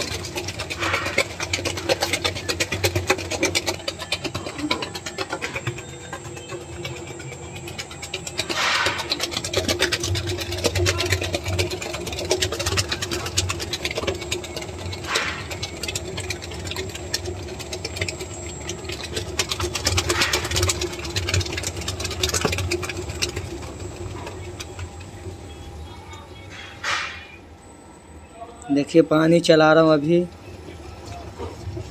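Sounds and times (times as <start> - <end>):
beater clattering: 0.0 - 27.4
beater swishing through mix: 0.0 - 27.4, 29.1 - 31.9
mixer motor hum: 0.0 - 28.0, 28.7 - 31.9.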